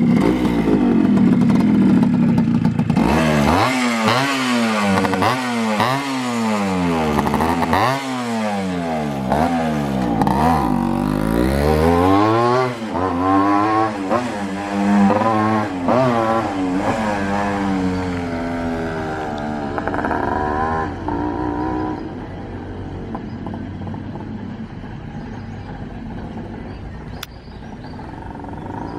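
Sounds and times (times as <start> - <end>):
two-stroke engine revving: 0.0 - 28.9.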